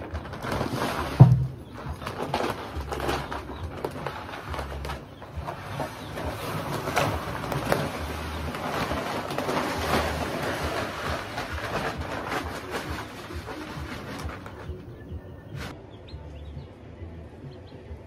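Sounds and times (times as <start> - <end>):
sack contents pouring out: 0.0 - 15.0.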